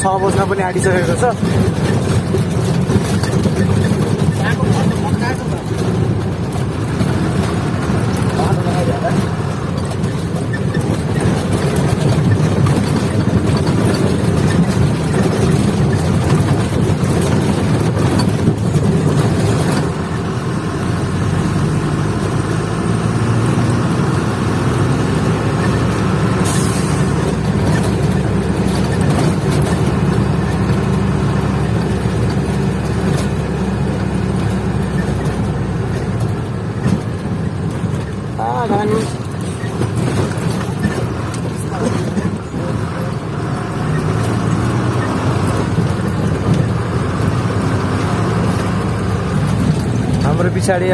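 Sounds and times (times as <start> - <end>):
road noise: 0.0 - 50.9
truck engine running: 0.0 - 50.9.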